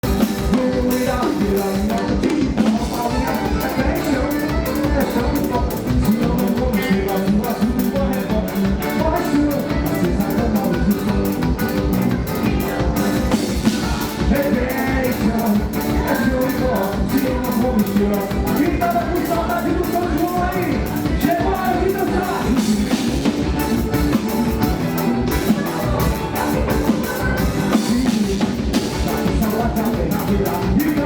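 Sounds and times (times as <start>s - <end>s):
drum kit fast beat: 0.0s - 31.0s
live band playing upbeat music: 0.0s - 31.0s.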